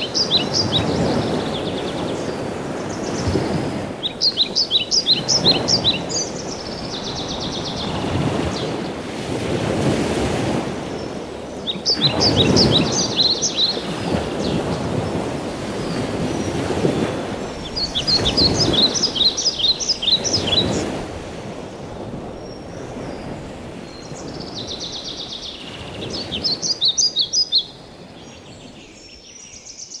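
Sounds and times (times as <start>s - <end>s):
birds chirping: 0.0s - 9.1s, 10.8s - 30.0s.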